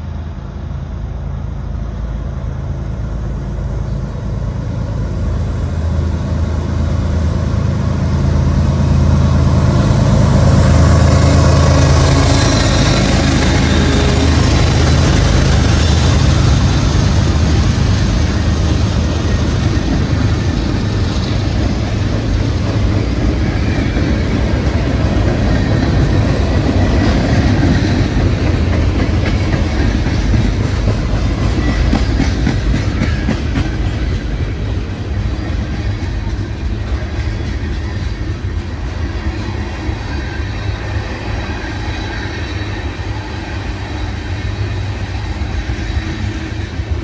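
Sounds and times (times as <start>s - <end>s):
train rumbling past: 0.0s - 47.0s
wheels clacking over rail joints: 2.4s - 43.9s.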